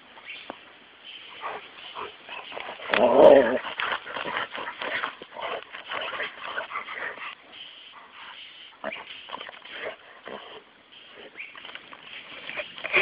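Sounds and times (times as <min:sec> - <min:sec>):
dogs sniffing and snuffling: 0:00.0 - 0:13.0.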